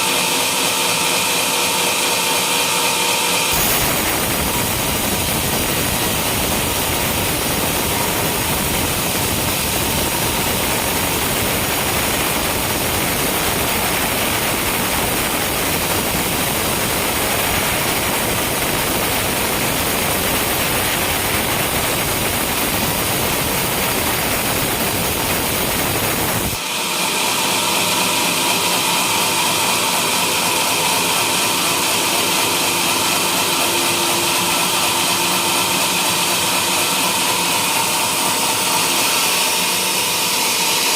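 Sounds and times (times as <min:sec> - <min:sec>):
sawmill cutting a log: 0:00.0 - 0:40.9.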